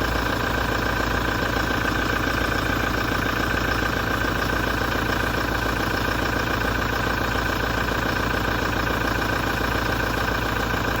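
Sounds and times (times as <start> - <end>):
diesel engine idling with knocking: 0.0 - 11.0.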